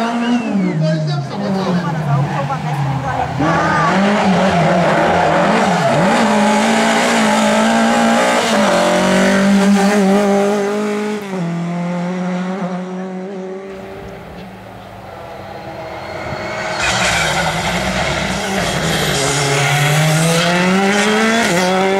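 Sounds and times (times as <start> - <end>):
rally car engine revving: 0.0 - 21.9.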